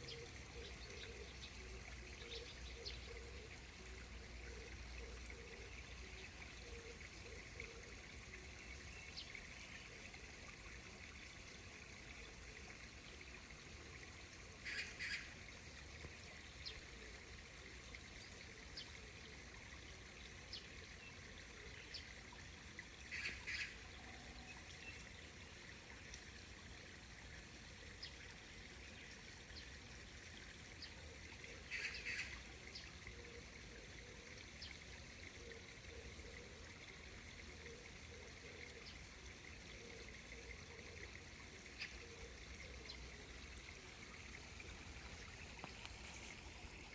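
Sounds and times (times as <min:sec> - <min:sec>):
small stream trickling: 0:00.0 - 0:46.9.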